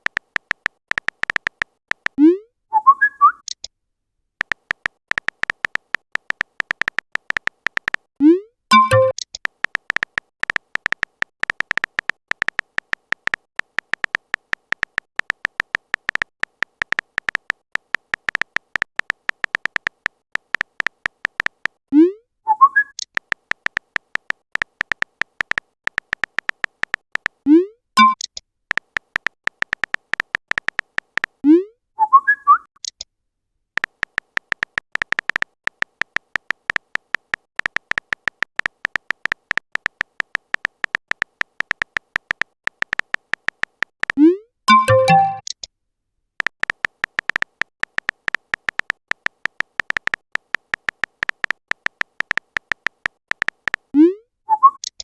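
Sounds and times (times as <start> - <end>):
high beeping typing clicks: 0.0 - 2.4, 4.4 - 21.8, 22.7 - 27.4, 28.0 - 31.4, 33.8 - 45.6, 46.4 - 55.0.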